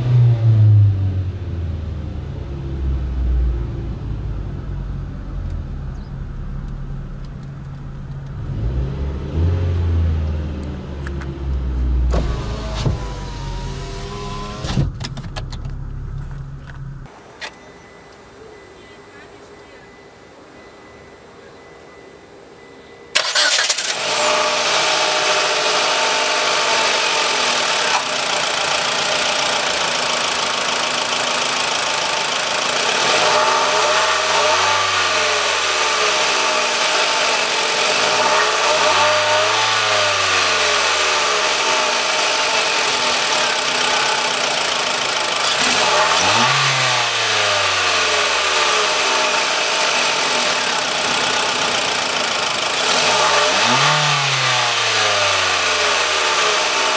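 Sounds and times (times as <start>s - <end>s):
car engine idling and revving: 0.0s - 17.4s, 23.1s - 56.9s.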